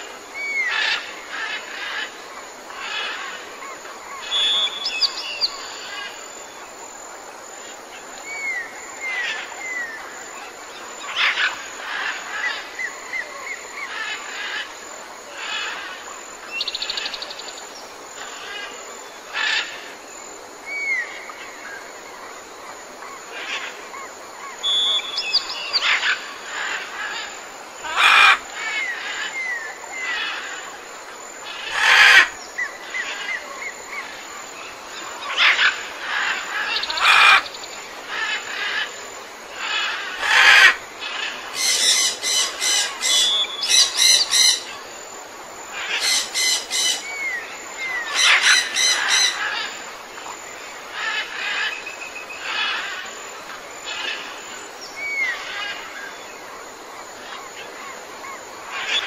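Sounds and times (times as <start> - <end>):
wild birds calling and singing: 0.0 - 6.8, 7.6 - 20.0, 20.6 - 59.0
steady background hiss: 0.0 - 59.0.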